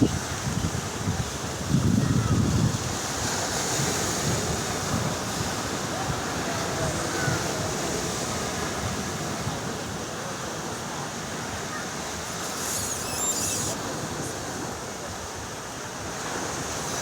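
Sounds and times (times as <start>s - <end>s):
wind buffeting microphone: 0.0s - 15.1s
rough sea surf breaking: 0.0s - 17.0s.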